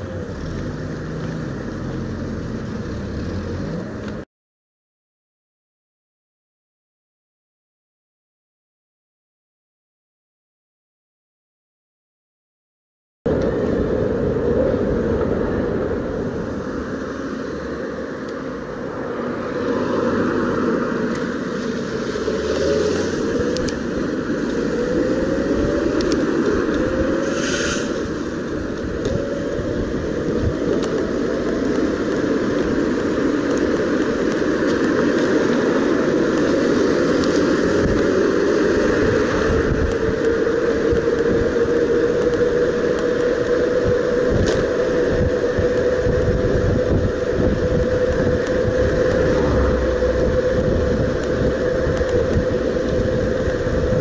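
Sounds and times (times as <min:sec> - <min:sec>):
wind and tyre noise: 0:00.0 - 0:04.3, 0:13.3 - 0:54.0.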